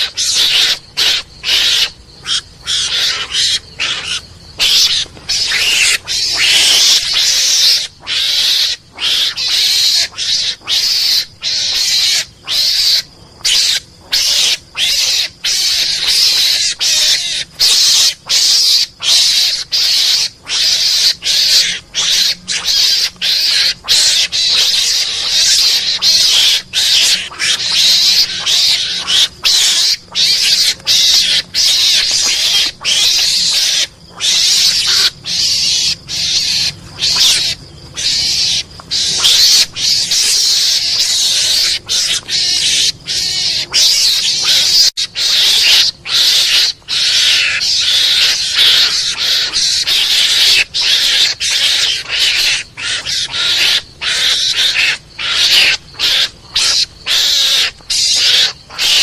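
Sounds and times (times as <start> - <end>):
mongoose screeches and chatters: 0.0 - 59.0.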